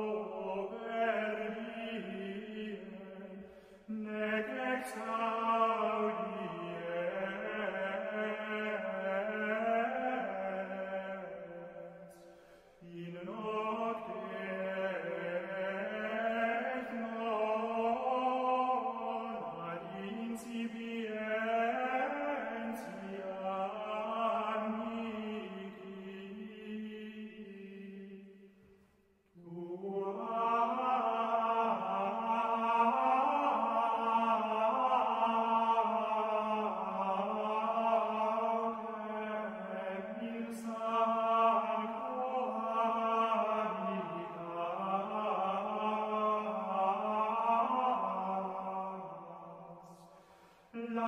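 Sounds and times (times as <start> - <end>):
slow chanted singing: 0.0 - 51.0.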